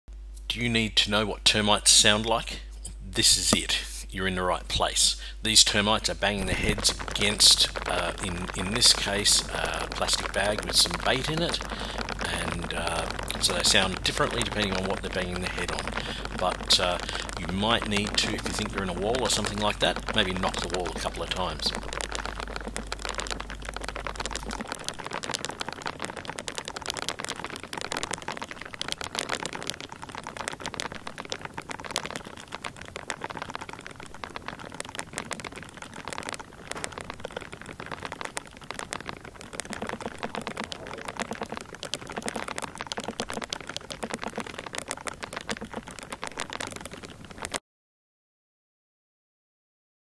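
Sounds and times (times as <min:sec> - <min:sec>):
termites tapping on plastic: 0:03.5 - 0:03.8, 0:05.7 - 0:47.6.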